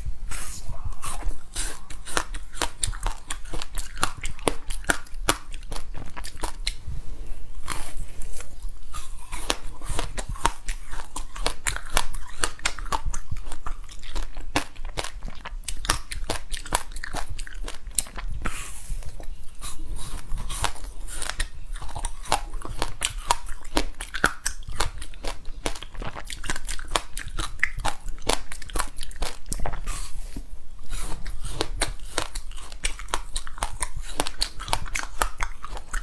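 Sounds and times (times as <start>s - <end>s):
crisp chewing crunches: 0.9s - 6.8s, 7.5s - 36.0s.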